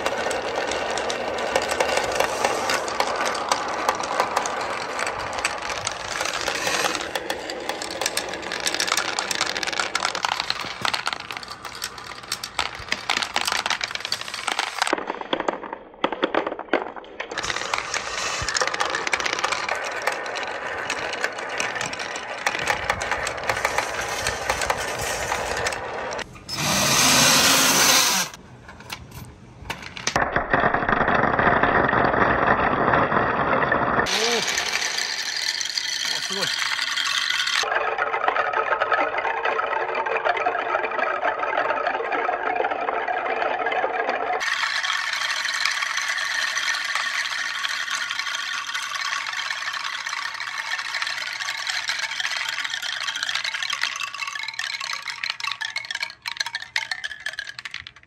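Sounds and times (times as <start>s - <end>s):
balls clattering down marble run: 0.0s - 58.0s.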